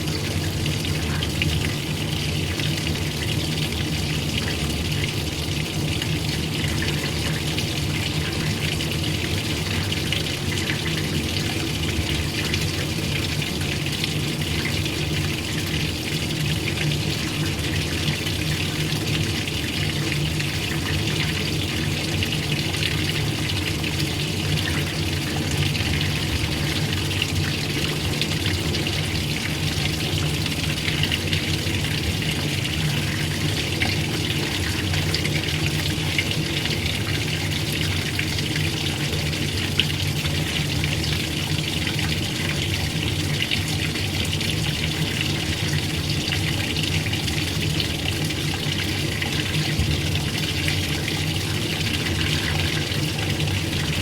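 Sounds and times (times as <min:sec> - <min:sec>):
churning water: 0:00.0 - 0:54.0.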